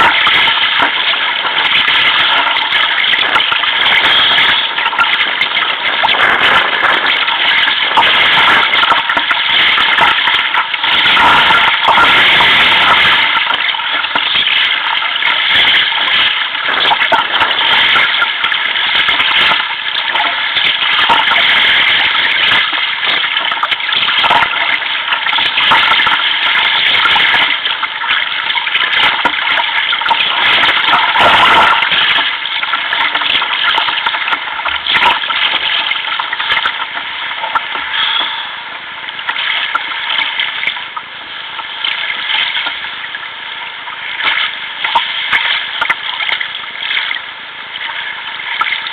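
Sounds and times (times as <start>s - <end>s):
water splashing against kayak: 0.0s - 48.9s.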